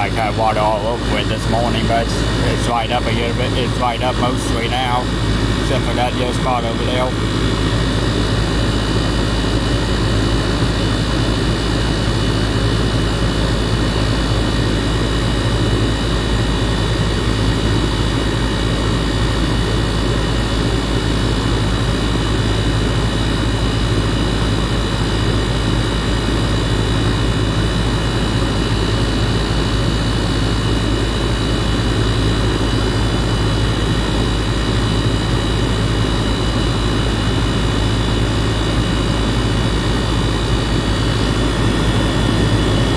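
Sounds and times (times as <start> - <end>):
air conditioner compressor hum: 0.0 - 42.9.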